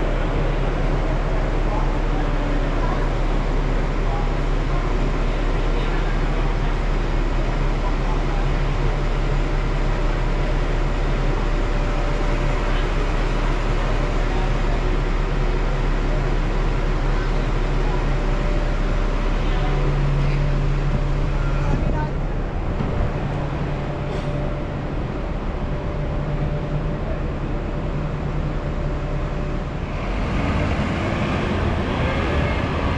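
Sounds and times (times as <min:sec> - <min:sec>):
bus engine hum: 0:00.0 - 0:32.9
road noise: 0:00.0 - 0:32.9.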